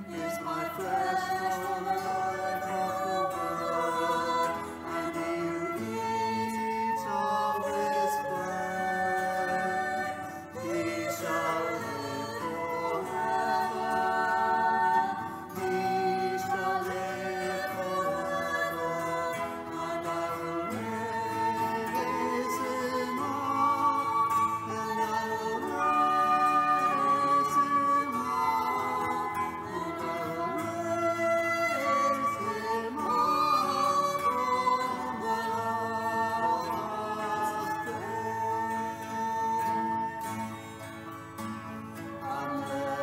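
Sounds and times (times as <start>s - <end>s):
voices singing a hymn: 0.0s - 43.0s.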